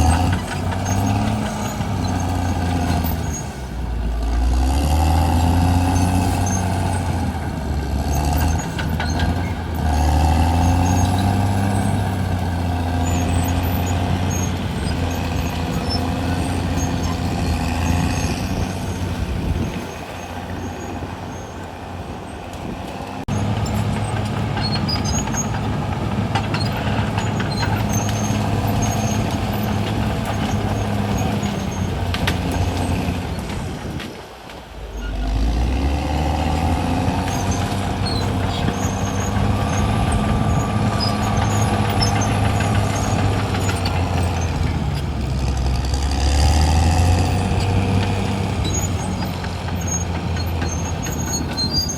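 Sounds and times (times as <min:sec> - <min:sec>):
bulldozer diesel engine under load: 0:00.0 - 0:51.9.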